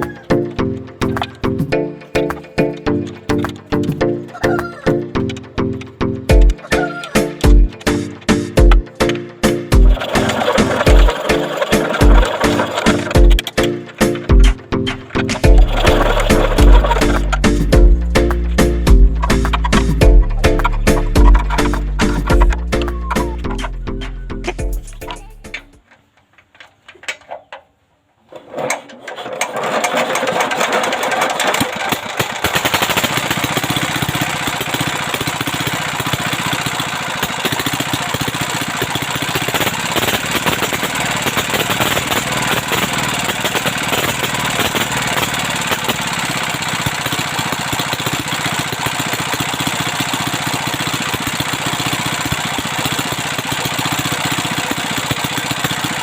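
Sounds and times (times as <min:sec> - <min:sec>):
diesel engine starting and running: 0:04.9 - 0:25.8, 0:28.5 - 0:56.0.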